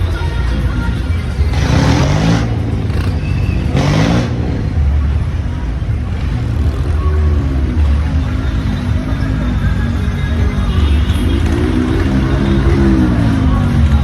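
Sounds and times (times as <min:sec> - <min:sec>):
tractor diesel engines under load: 0:00.0 - 0:14.0
engine revving: 0:00.6 - 0:14.0.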